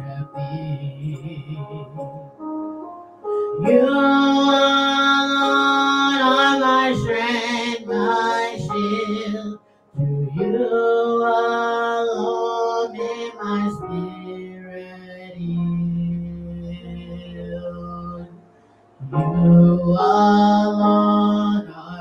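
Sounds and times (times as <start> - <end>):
person singing a worship hymn: 0.0 - 2.5, 3.6 - 18.4, 19.0 - 22.0
musical accompaniment: 0.0 - 22.0.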